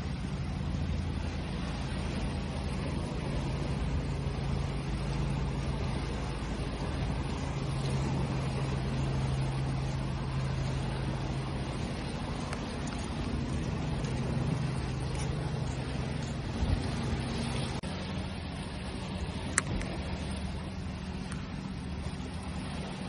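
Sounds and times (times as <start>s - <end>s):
low engine-like hum: 0.0s - 23.0s
surf washing: 0.0s - 23.0s.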